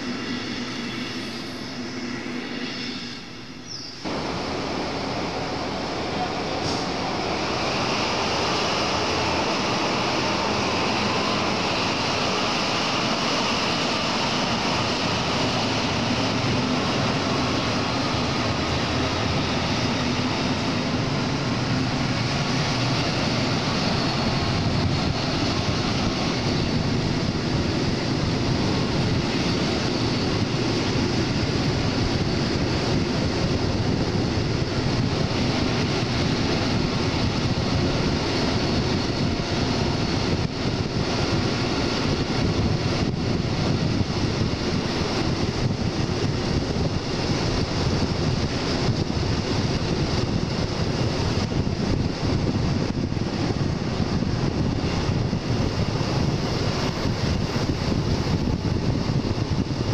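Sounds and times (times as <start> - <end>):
train wheels rumbling on track: 0.0 - 59.9
wind rushing on microphone: 0.0 - 59.9.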